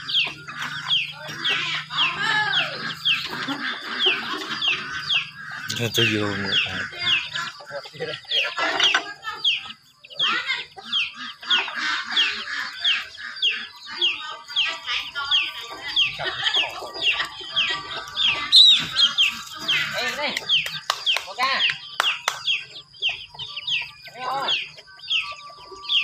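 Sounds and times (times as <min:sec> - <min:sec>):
chickens calling: 0:00.0 - 0:26.0.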